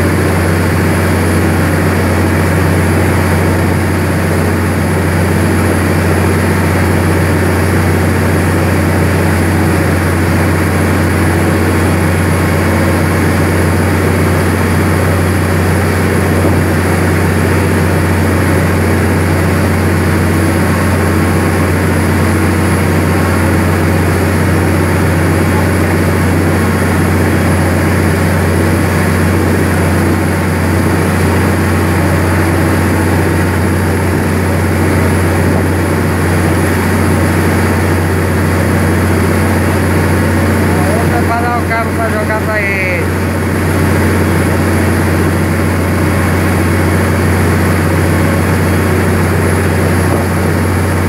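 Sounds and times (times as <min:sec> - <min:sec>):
boat diesel engine droning: 0:00.0 - 0:51.0
wake rushing along hull: 0:00.0 - 0:51.0.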